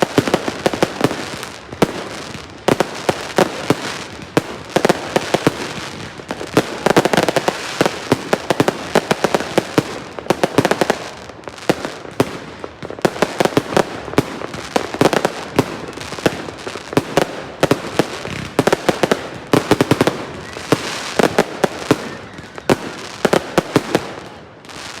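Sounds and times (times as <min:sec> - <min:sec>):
fireworks bangs and cracks: 0:00.0 - 0:25.0
fireworks crackling: 0:00.0 - 0:25.0.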